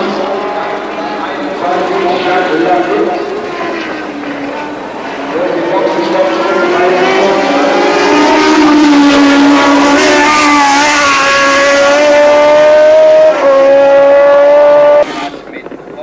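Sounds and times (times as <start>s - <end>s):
racing car engine at high revs: 0.0s - 15.8s.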